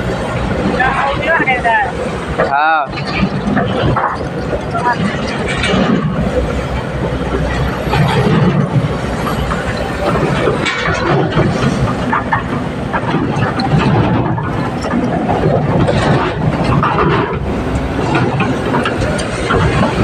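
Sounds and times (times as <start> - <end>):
excavator diesel engine running: 0.0 - 20.0
metallic clanks and knocks: 2.3 - 20.0.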